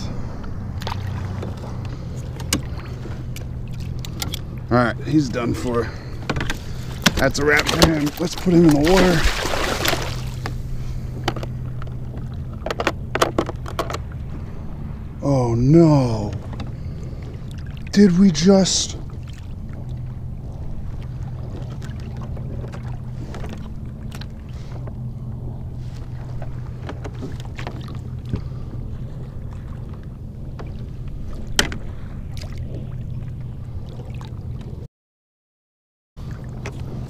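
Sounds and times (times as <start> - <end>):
steady low hum: 0.0 - 34.9
water lapping against hull: 0.0 - 34.9, 36.2 - 37.0.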